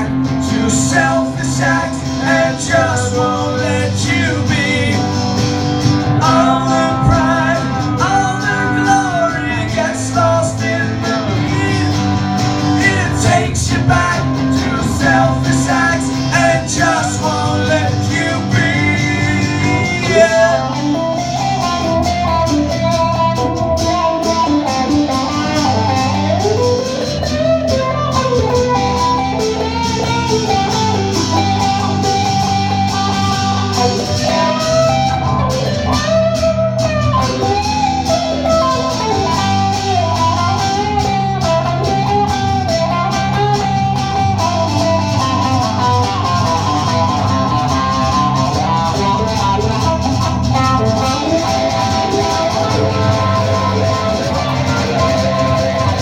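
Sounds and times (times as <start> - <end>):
lead guitar solo: 0.0 - 56.0
strummed guitar chords: 0.0 - 56.0.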